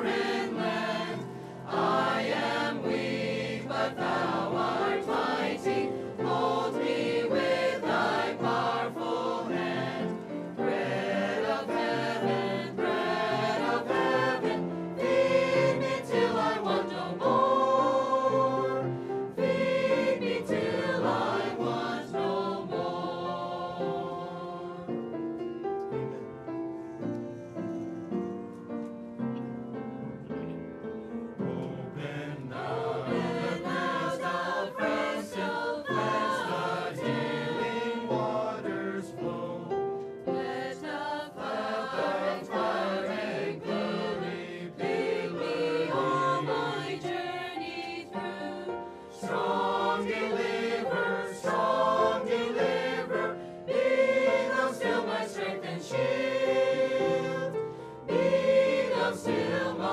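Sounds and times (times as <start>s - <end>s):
mixed choir singing: 0.0s - 25.4s, 31.4s - 59.9s.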